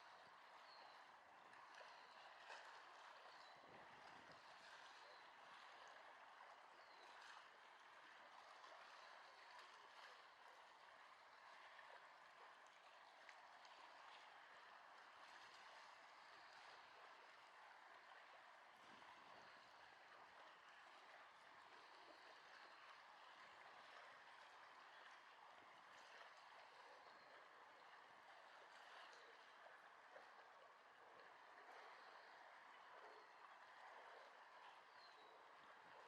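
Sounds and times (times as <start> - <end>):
faint outdoor ambience: 0.0 - 36.0.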